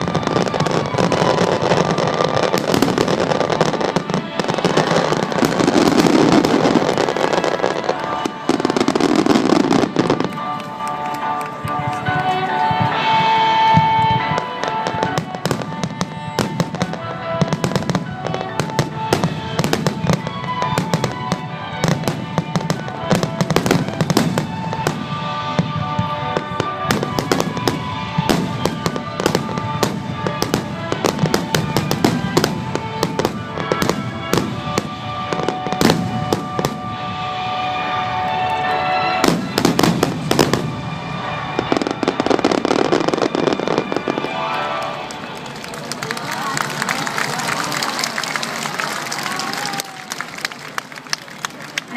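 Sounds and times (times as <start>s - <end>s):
music: 0.0s - 50.6s
fireworks bursting with crackling: 0.0s - 51.9s.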